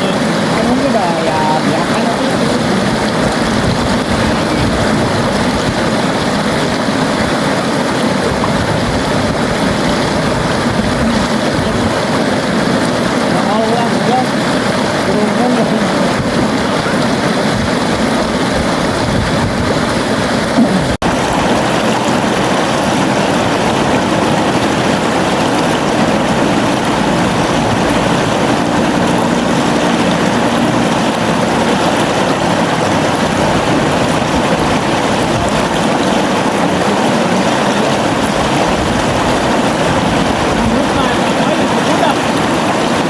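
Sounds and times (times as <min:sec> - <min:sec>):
river water flowing: 0:00.0 - 0:43.0.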